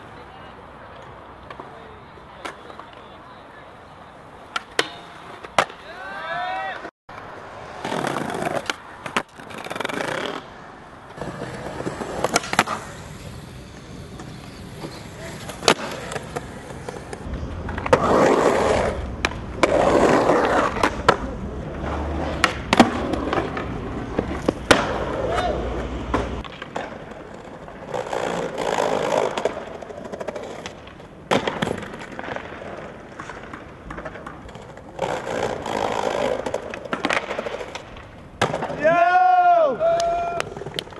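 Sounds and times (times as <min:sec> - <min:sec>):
skateboard wheels rolling on brick: 0:00.0 - 0:40.9
skateboard clacking: 0:00.8 - 0:40.9.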